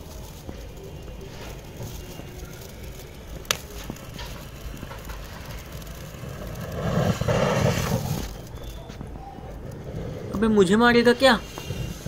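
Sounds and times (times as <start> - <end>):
sharp crack: 0.0 - 10.5
rocket powder burning: 0.0 - 12.0.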